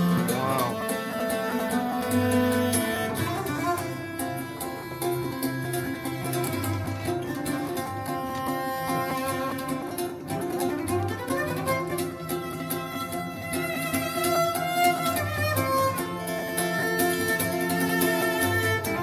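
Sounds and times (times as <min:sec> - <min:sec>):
acoustic string music over loudspeakers: 0:00.0 - 0:19.0.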